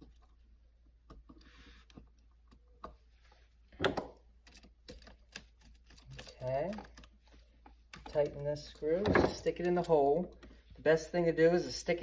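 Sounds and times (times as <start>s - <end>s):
wires and plastic receptacle handled: 0.0s - 10.9s.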